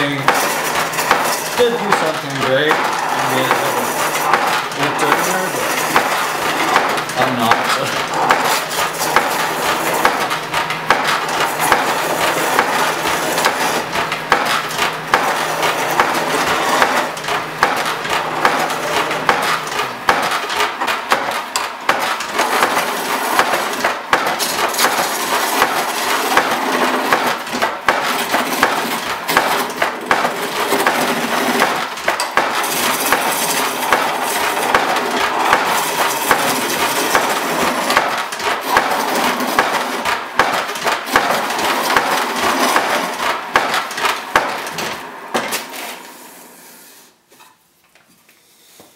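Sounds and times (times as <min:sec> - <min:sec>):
tool chattering ticks: 0:00.0 - 0:43.0
chisel shaving wood on lathe: 0:00.0 - 0:44.9.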